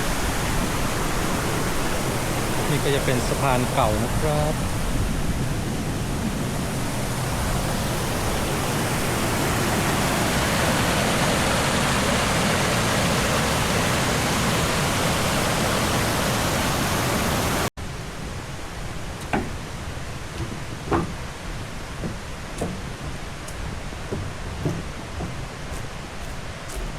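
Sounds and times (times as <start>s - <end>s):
water rushing over waterfall: 0.0s - 26.9s.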